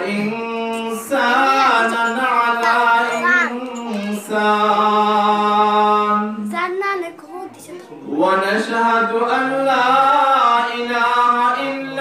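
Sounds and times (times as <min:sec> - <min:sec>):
man chanting: 0:00.0 - 0:06.5, 0:08.0 - 0:12.0.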